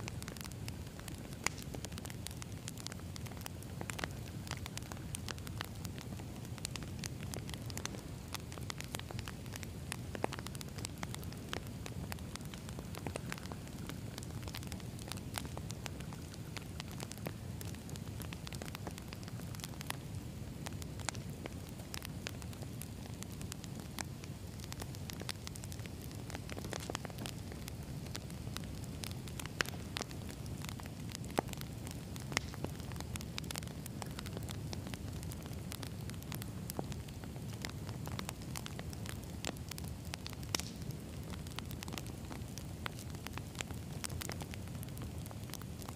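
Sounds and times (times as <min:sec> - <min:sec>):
campfire flames rumbling: 0:00.0 - 0:45.9
fire crackles and pops: 0:00.0 - 0:45.9.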